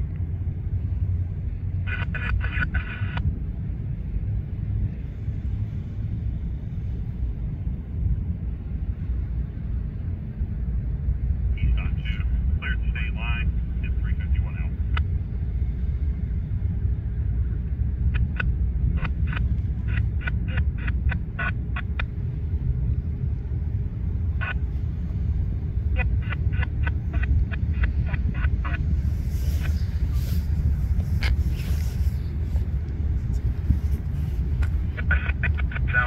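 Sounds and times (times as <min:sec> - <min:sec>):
locomotive engines rumbling: 0:00.0 - 0:36.0.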